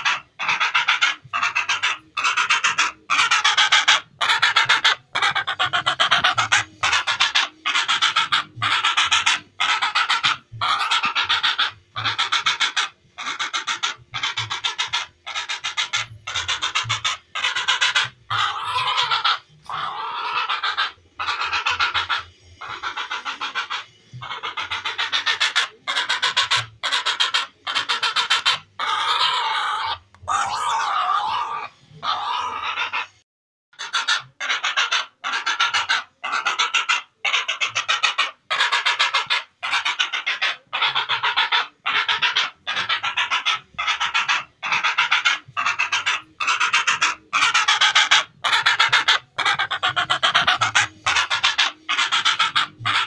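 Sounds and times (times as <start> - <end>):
herons calling: 0.0 - 33.2, 33.8 - 53.0.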